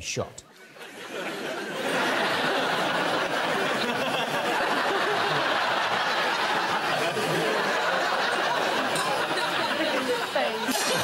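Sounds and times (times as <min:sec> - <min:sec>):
studio audience laughing: 0:00.6 - 0:11.0.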